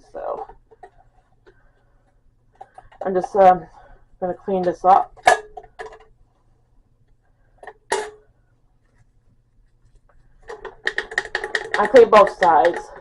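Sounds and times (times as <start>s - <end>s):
faint handling sounds: 0.1s - 13.0s.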